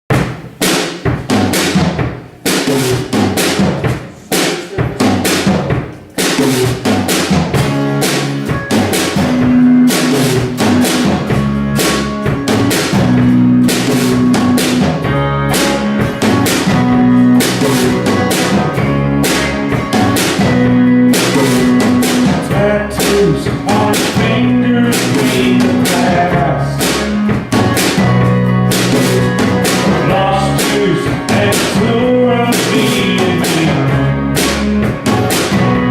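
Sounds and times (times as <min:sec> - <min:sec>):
drum kit playing: 0:00.0 - 0:35.9
rock band playing: 0:00.1 - 0:35.9.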